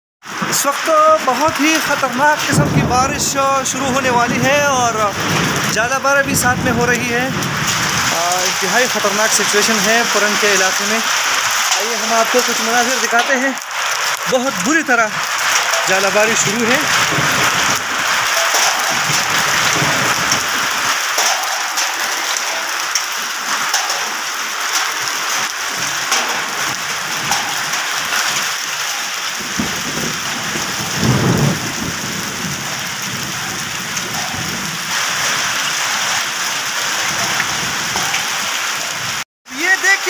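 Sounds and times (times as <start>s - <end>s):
hail and rain on concrete: 0.2s - 40.0s.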